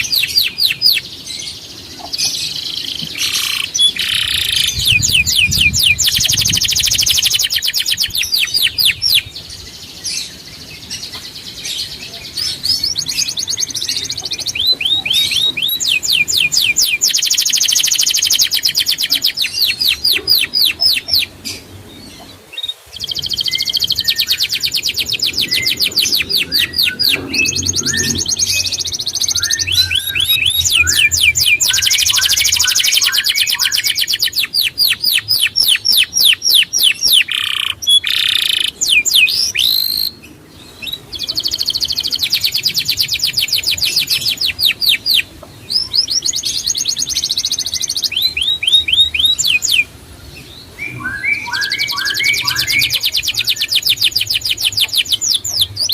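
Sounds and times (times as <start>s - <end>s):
songbird trilling: 0.0s - 9.6s, 10.3s - 49.9s, 50.8s - 55.9s.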